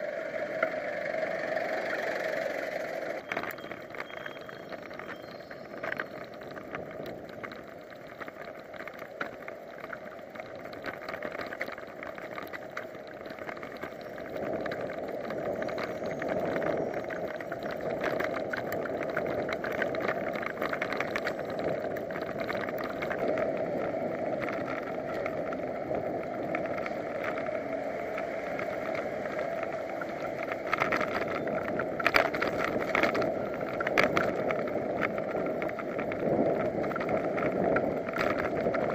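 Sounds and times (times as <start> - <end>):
road noise: 0.0 - 38.9
wind rushing over microphone: 3.2 - 38.9.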